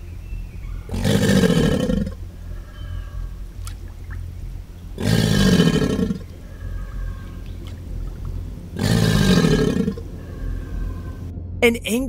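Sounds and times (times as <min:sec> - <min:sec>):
alligator bellowing: 0:00.7 - 0:11.3.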